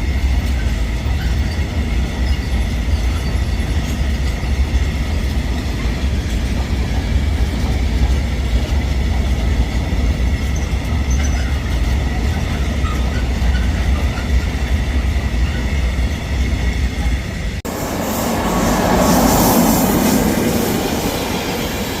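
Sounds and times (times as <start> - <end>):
train rumbling on rails: 0.0 - 22.0
train rushing by: 0.0 - 22.0.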